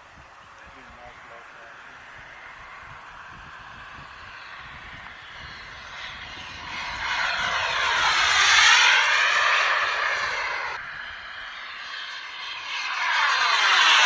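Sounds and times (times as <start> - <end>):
model jet turbine rush: 0.0 - 14.0.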